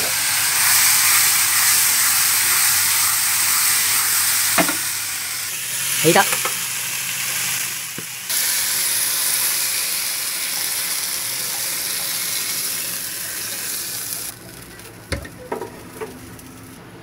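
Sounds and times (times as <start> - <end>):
stir-fry sizzling in frying pan: 0.0 - 16.8.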